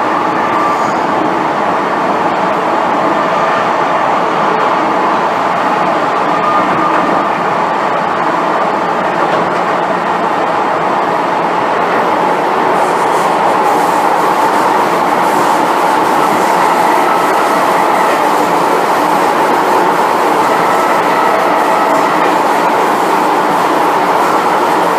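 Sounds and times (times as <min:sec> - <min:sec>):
train wheel and rail noise: 0:00.0 - 0:24.9.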